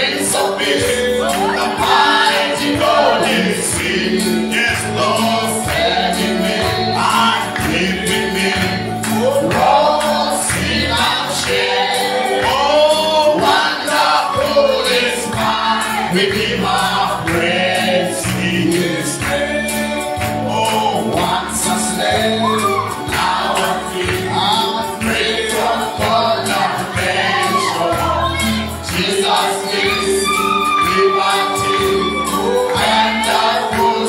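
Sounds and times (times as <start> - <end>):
band accompaniment with steady beat: 0.0 - 34.0
voices singing gospel: 0.0 - 34.0.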